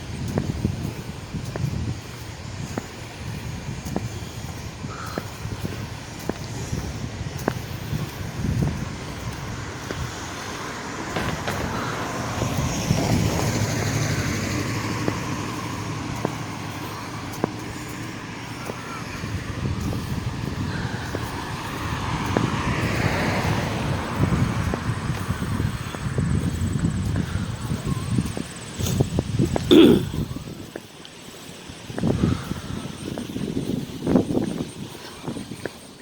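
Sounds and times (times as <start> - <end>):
vehicles passing on street: 0.0 - 36.0.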